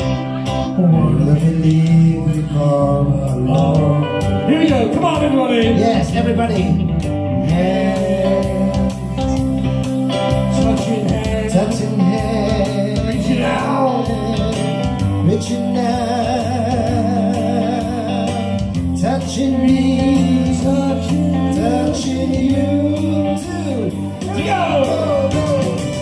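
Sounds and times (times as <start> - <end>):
guitar: 0.0 - 26.0
steady drum beat: 3.3 - 26.0.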